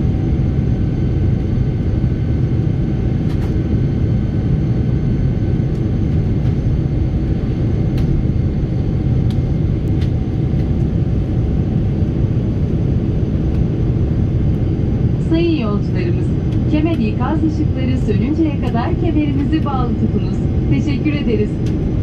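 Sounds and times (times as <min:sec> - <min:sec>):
jet engines droning: 0:00.0 - 0:22.0.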